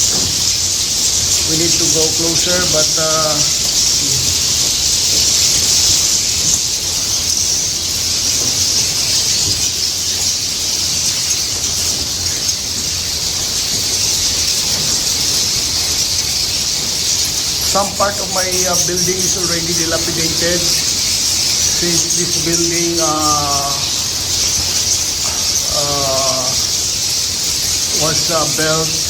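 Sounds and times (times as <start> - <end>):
swiftlets twittering: 0.0 - 29.0.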